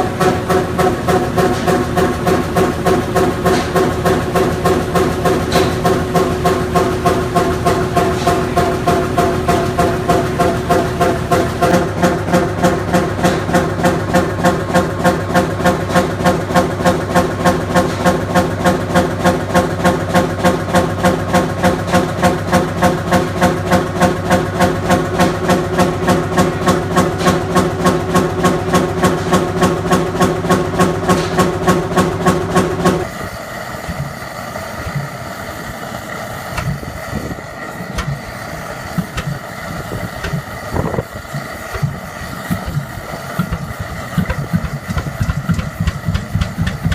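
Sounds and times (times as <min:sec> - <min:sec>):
stationary engine exhaust beat: 0:00.0 - 0:46.9.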